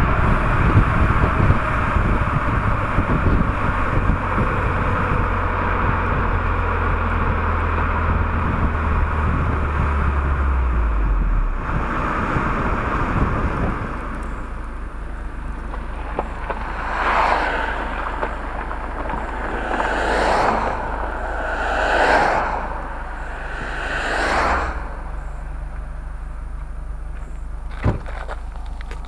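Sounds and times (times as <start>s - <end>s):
car engine revving and idling: 0.0s - 29.0s.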